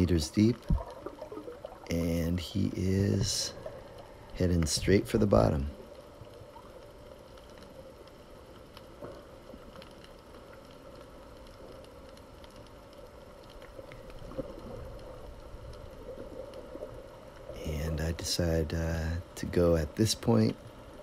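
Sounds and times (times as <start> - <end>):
faint underwater hum: 0.0 - 21.0.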